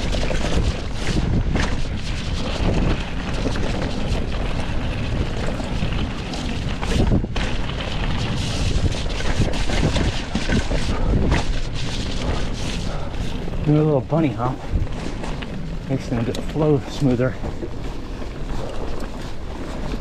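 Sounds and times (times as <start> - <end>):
bike knocking and rattling over bumps: 0.0 - 20.0
wind rumble on microphone: 0.0 - 20.0.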